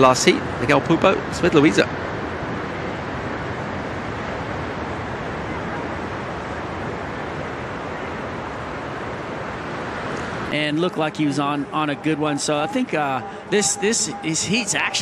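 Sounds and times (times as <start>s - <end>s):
waves breaking: 0.4s - 15.0s.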